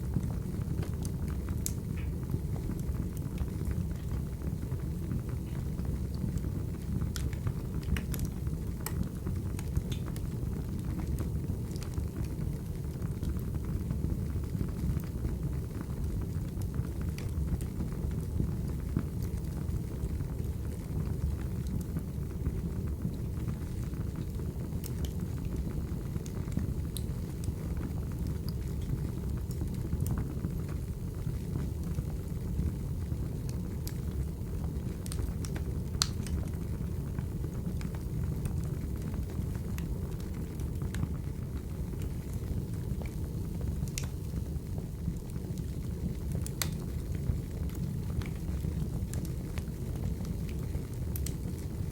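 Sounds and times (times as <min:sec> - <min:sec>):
firewood crackling and popping: 0:00.0 - 0:51.9
low rumble of flames: 0:00.0 - 0:51.9.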